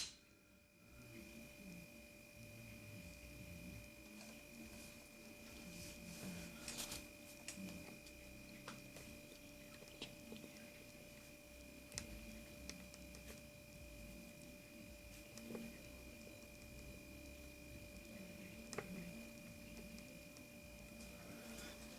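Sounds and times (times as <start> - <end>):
faint electrical hum: 0.0 - 21.9.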